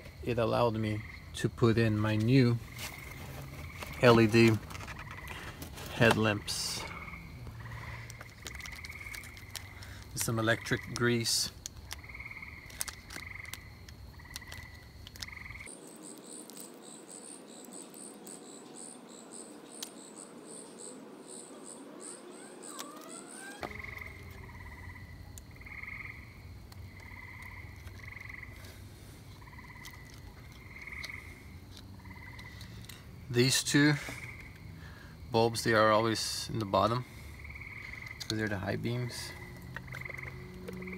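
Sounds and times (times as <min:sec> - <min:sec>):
frogs calling: 0:00.0 - 0:40.9
insect chirping: 0:00.0 - 0:40.9.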